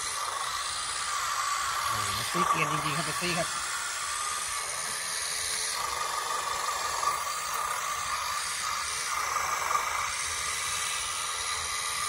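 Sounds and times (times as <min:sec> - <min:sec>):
electric motors whining: 0:00.0 - 0:12.0
steady hiss: 0:00.0 - 0:12.0.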